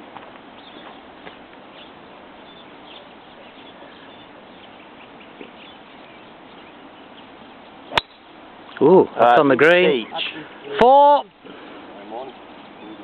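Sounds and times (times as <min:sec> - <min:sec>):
birds chirping faintly: 0:00.0 - 0:13.0
outdoor background hiss: 0:00.0 - 0:13.0.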